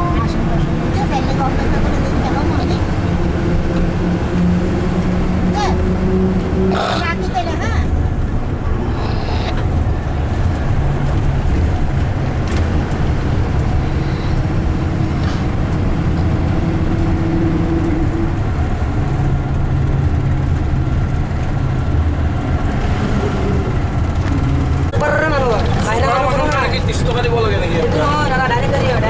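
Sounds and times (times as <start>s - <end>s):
bus engine rumble: 0.0s - 29.0s
road noise of moving bus: 0.0s - 29.0s.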